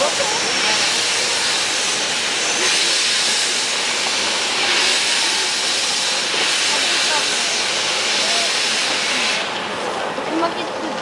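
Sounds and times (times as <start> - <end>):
steam locomotive hissing steam: 0.0 - 10.9.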